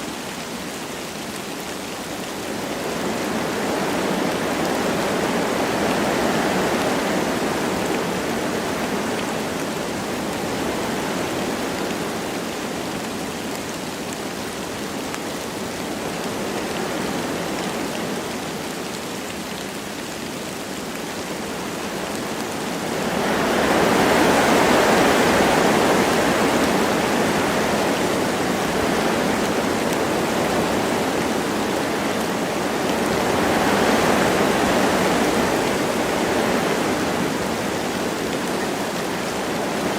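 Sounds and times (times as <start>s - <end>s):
light rain: 0.0s - 39.9s
wind blowing through trees: 0.0s - 39.9s.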